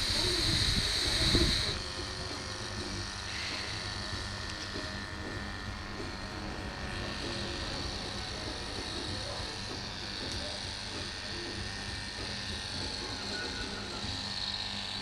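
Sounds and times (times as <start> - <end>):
electric clippers humming: 0.0 - 15.0.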